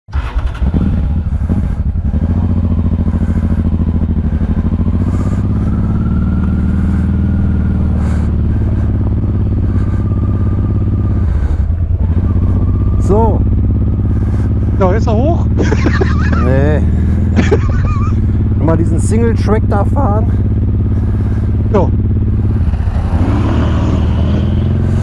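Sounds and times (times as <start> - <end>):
motorcycle engine running: 0.1 - 25.0.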